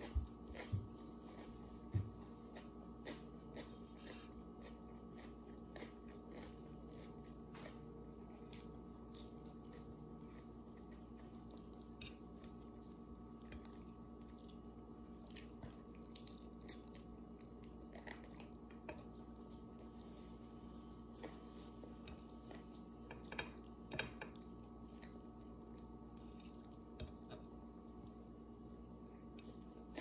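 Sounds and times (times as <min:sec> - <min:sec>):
person chewing food: 0:00.0 - 0:30.0
steady low hum: 0:00.0 - 0:30.0.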